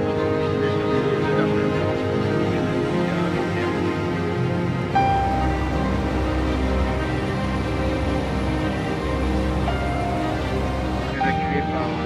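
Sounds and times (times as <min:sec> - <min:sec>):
sustained tones music score: 0:00.0 - 0:12.0.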